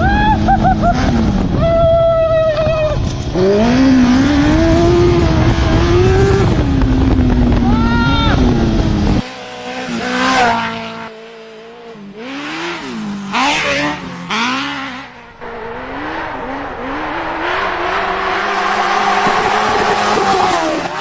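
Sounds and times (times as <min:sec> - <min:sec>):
motorcycle engine revving: 0:03.0 - 0:21.0.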